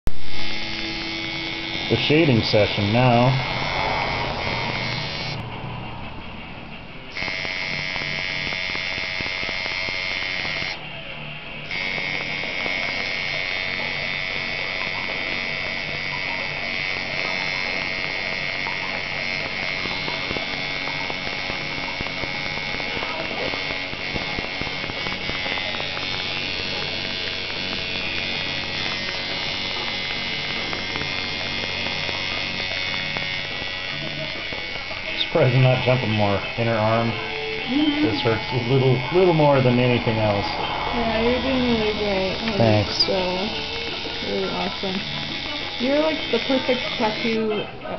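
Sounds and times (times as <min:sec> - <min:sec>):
tattoo machine buzzing: 0:00.0 - 0:47.9.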